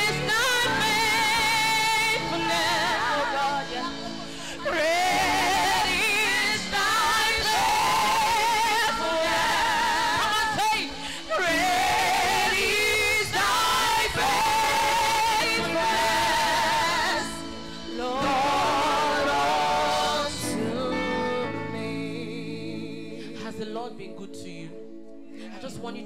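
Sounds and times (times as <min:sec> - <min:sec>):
choir singing worship song: 0:00.0 - 0:24.7.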